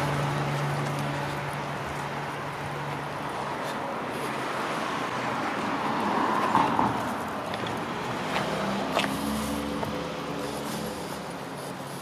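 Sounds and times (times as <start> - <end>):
road vehicle passing by: 0.0 - 12.0.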